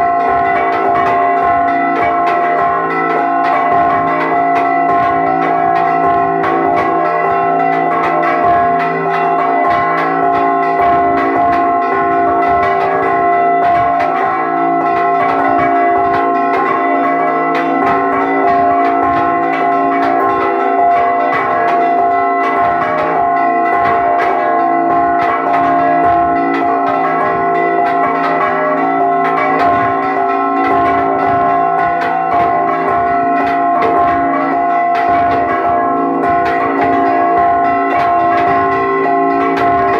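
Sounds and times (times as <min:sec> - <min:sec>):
church bells ringing rapidly: 0:00.0 - 0:39.9.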